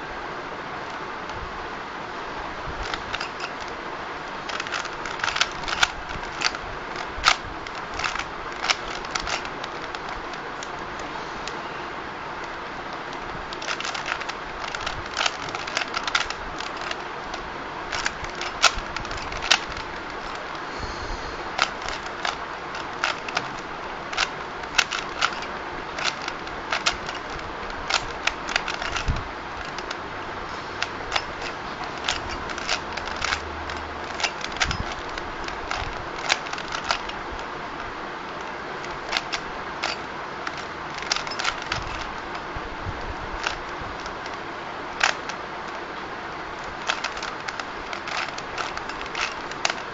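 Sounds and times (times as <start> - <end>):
steady background hiss: 0.0 - 49.9
puzzle cube clicking: 2.8 - 3.8, 4.4 - 11.6, 12.4 - 20.7, 21.4 - 30.0, 30.8 - 42.5, 43.3 - 45.8, 46.6 - 49.9.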